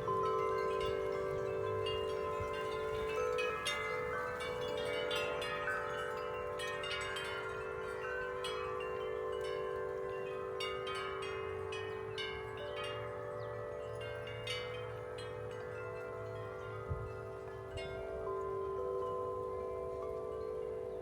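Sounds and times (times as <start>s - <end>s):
tube wind chimes ringing: 0.0s - 21.0s.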